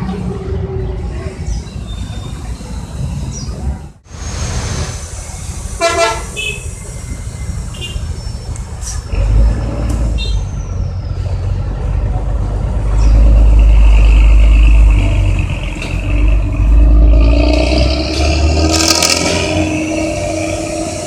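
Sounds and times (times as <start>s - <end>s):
bus diesel engine rumbling: 0.0s - 21.0s.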